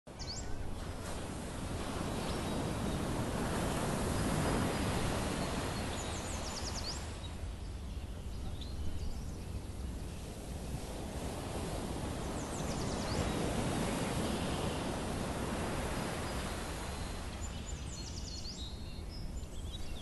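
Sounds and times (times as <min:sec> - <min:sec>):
wind rushing over microphone: 0:00.1 - 0:20.0.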